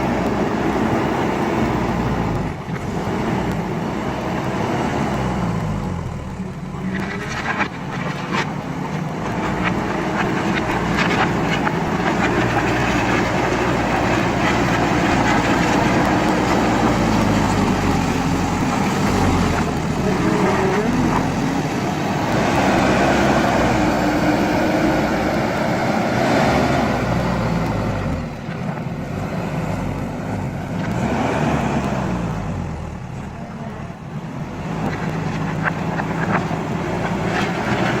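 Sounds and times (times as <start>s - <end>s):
diesel engine revving: 0.0s - 38.0s.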